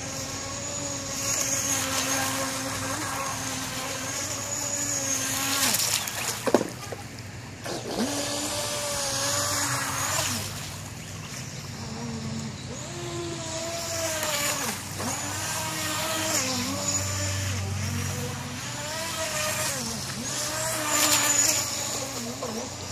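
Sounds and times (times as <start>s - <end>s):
electric motor whining: 0.0s - 7.0s, 7.6s - 22.9s.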